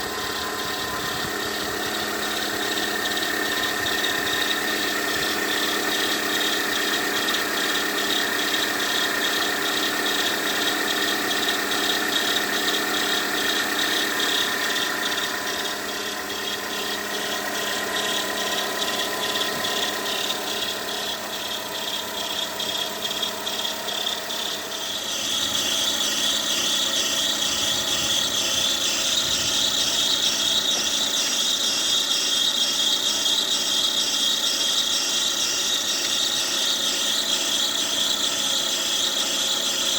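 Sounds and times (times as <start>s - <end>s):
belt squealing: 0.0s - 39.9s
car engine running: 0.0s - 39.9s.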